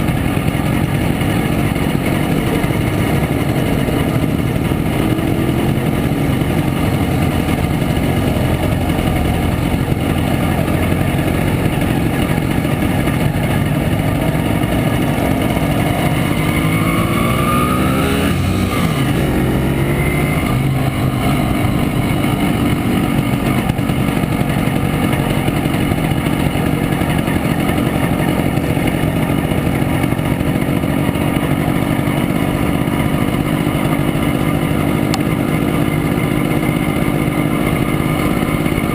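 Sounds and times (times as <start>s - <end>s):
two-stroke motorcycle engine running: 0.0s - 38.9s.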